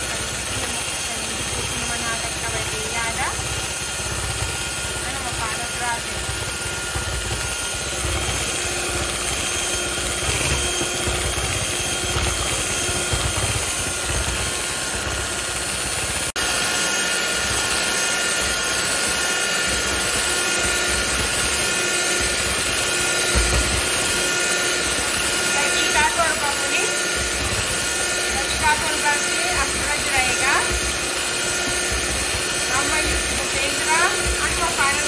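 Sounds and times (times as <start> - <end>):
beaters churning cream: 0.0 - 35.0
electric hand mixer motor whine: 0.0 - 35.0.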